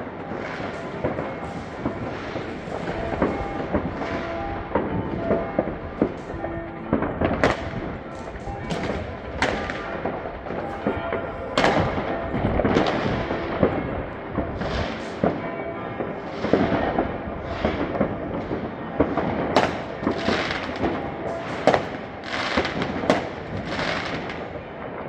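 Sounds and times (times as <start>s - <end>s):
loud firework bangs: 0.0s - 24.5s
fireworks crackling: 0.0s - 25.0s.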